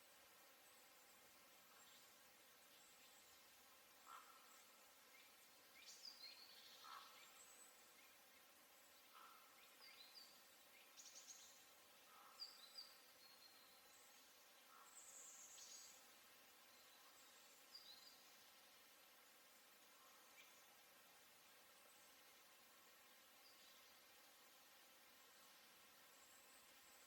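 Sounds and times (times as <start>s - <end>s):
background hiss: 0.0s - 27.0s
songbird chirps: 0.0s - 27.0s.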